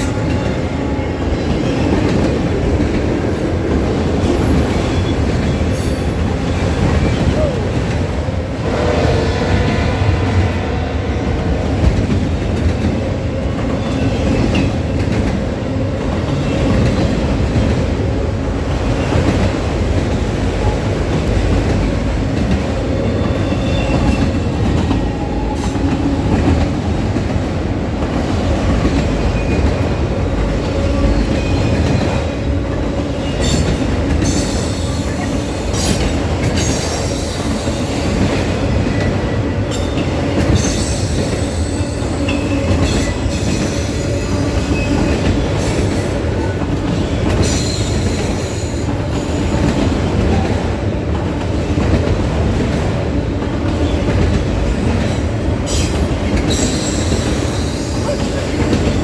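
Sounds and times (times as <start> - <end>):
train rumbling past: 0.0 - 59.0.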